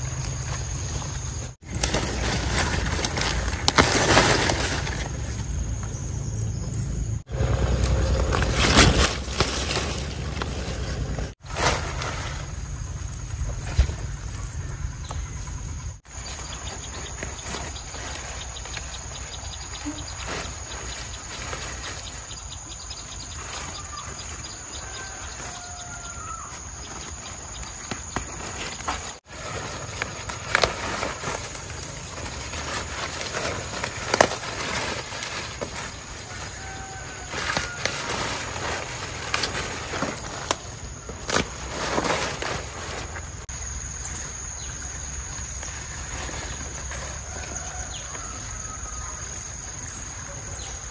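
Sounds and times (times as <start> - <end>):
insect trill: 0.0 - 50.9
leaves rustling: 0.0 - 50.9.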